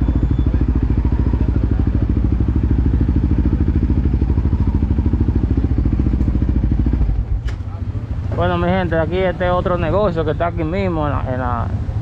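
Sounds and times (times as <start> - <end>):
atv engine idling: 0.0 - 12.0.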